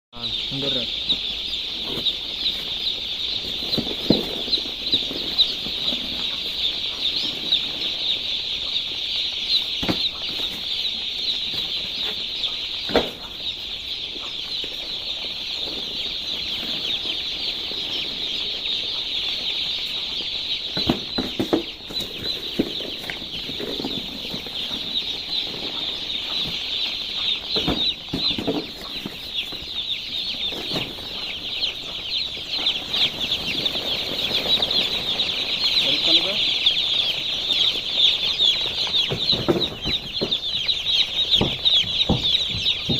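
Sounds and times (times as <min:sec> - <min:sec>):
chicks peeping: 0:00.1 - 0:42.9.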